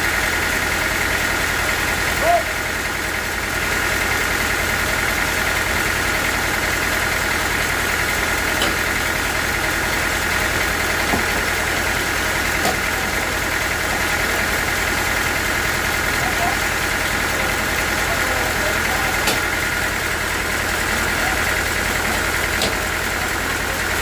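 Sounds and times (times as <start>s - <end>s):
sawmill machinery drone: 0.0s - 24.0s.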